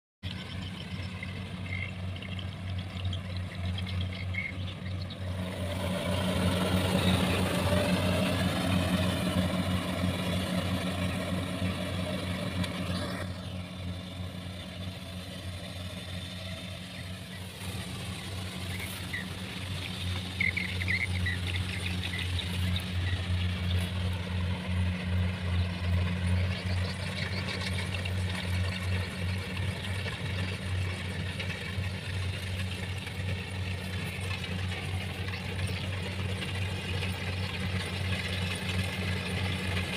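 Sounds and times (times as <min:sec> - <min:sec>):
combine harvester engine hum: 0:00.2 - 0:39.9.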